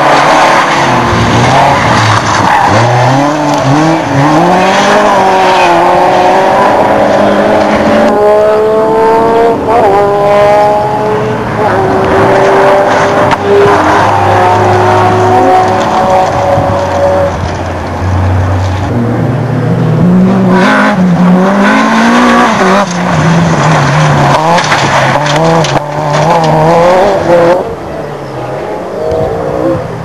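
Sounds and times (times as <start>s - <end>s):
rally car engines passing at speed: 0.0s - 30.0s.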